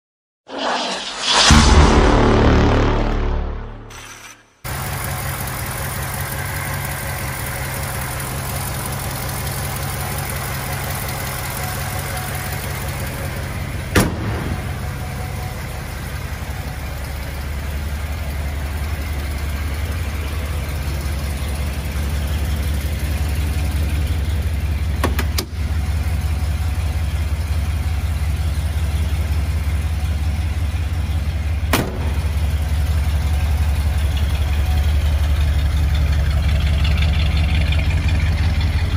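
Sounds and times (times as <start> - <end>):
car engine idling: 4.7 - 38.9.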